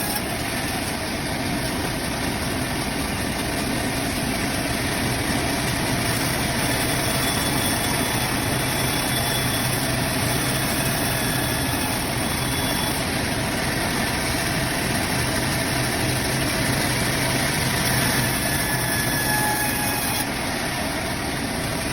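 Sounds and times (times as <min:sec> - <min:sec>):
band sawmill running: 0:00.0 - 0:21.9.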